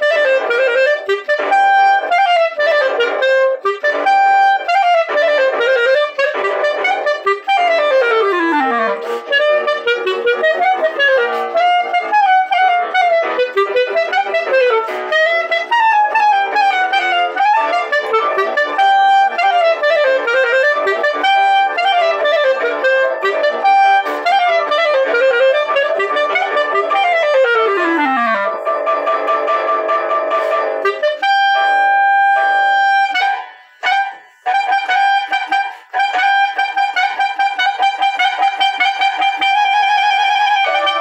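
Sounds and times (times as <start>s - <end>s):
clarinet playing quick runs: 0.0s - 41.0s.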